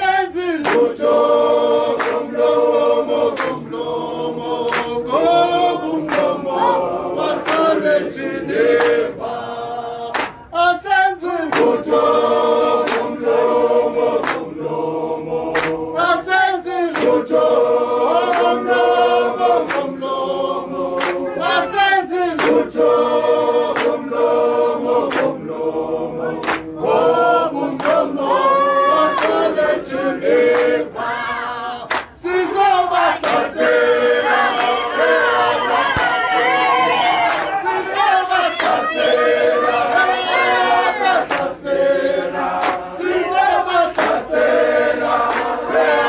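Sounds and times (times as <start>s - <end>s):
group singing unaccompanied: 0.0s - 46.0s.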